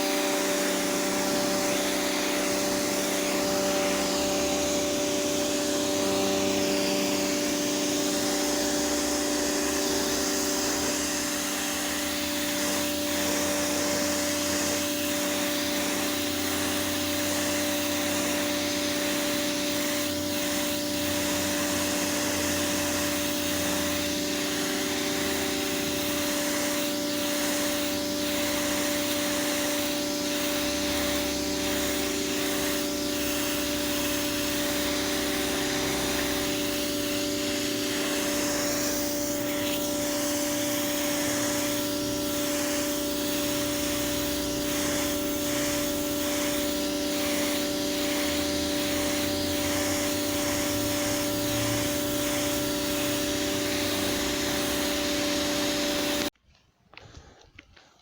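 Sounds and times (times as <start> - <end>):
water jet spraying pavement: 0.0 - 56.3
pressure washer motor hum: 0.0 - 56.4.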